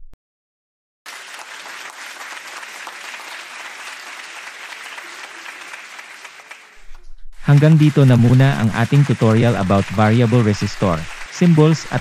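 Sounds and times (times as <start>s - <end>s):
group clapping: 1.1s - 12.0s.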